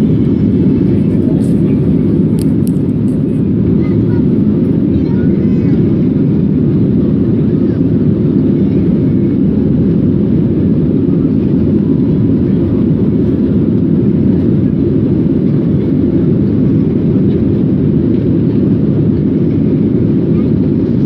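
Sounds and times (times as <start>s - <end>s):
airplane cabin engine roar: 0.0s - 21.0s.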